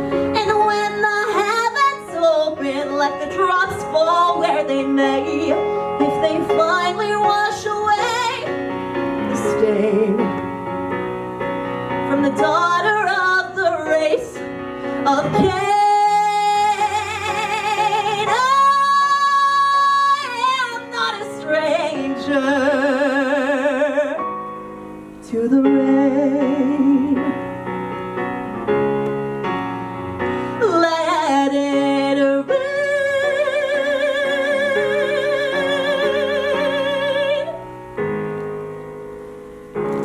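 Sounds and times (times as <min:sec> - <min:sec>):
piano accompaniment: 0:00.0 - 0:40.0
woman singing ballad: 0:00.2 - 0:10.5, 0:12.0 - 0:24.4, 0:25.2 - 0:27.5, 0:30.5 - 0:37.7.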